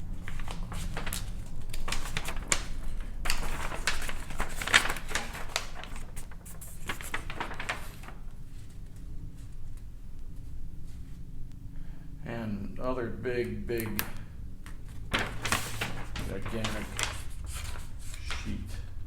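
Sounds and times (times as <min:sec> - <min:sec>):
paper rustling and crackling: 0:00.0 - 0:11.0, 0:13.8 - 0:19.0.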